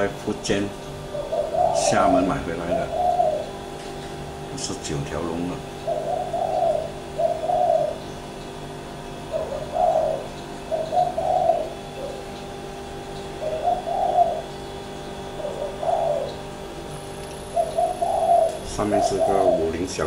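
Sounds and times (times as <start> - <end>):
bird cooing: 0.0 - 20.0
steady hum: 0.0 - 20.0.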